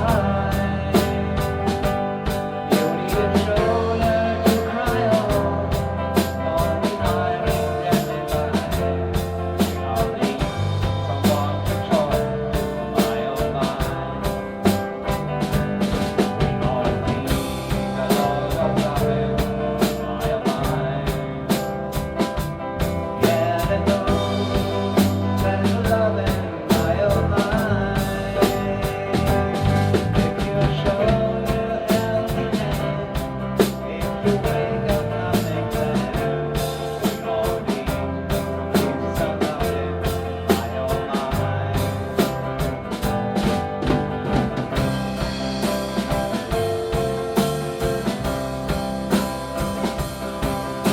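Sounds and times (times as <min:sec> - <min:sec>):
bass guitar: 0:00.0 - 0:50.9
drum kit beat: 0:00.0 - 0:50.9
electric guitar: 0:00.0 - 0:50.9.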